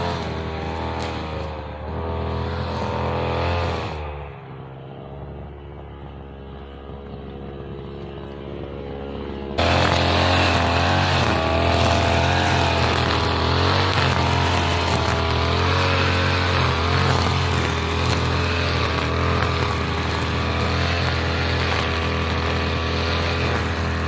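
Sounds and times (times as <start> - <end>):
brush cutter engine wavering: 0.0 - 24.0.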